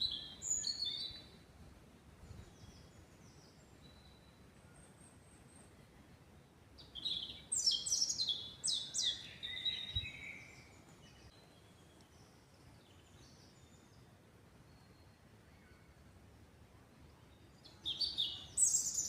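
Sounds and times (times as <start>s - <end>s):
songbird singing with trill: 0.0s - 1.4s, 2.3s - 5.8s, 6.8s - 16.0s, 17.0s - 19.0s
forest background hiss: 0.0s - 19.0s.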